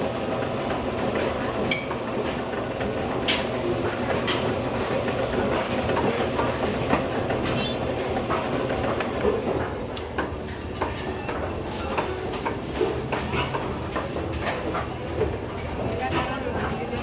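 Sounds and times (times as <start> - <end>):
meat grinder running: 0.0 - 17.0.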